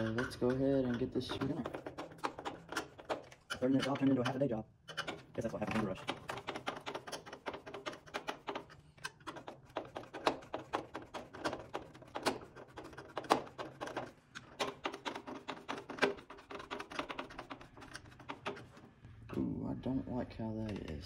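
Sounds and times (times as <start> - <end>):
screwdriver clicking and tapping: 0.0 - 18.8.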